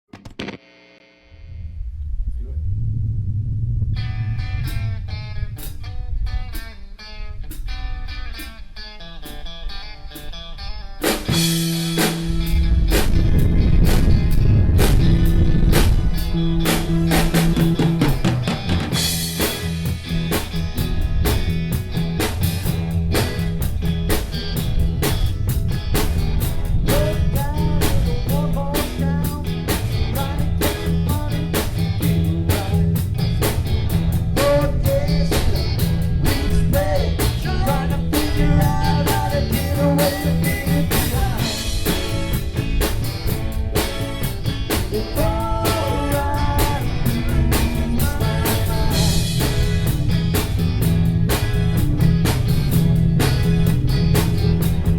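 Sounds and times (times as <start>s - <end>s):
electric guitar: 0.1s - 2.7s, 3.5s - 54.9s
drum kit: 4.6s - 5.9s, 11.0s - 54.9s.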